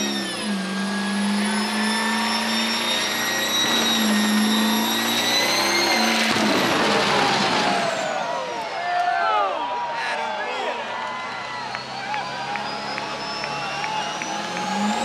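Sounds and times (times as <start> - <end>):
diesel truck engine revving: 0.0 - 8.7, 11.0 - 15.0
high whine of spinning tyres: 0.0 - 9.0, 10.8 - 15.0.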